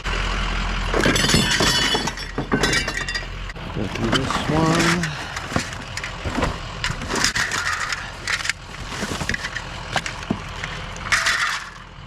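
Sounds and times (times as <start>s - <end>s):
scrap knocking and clattering: 1.0s - 11.8s.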